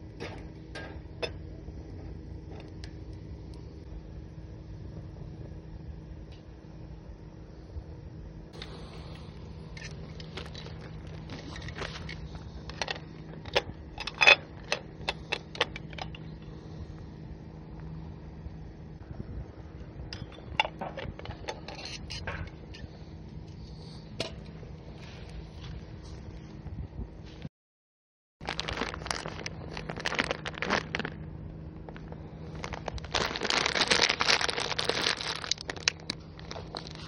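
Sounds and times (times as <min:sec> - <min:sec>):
steady low hum: 0:00.0 - 0:27.5, 0:28.4 - 0:37.0.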